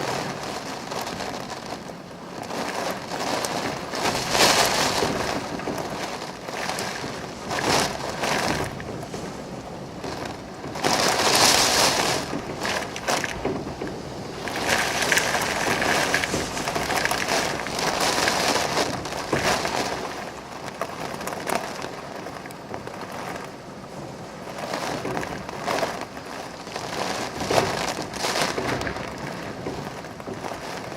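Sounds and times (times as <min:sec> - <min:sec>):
branches and leaves thrashing: 0:00.0 - 0:30.9
strong wind gusting: 0:00.0 - 0:30.9.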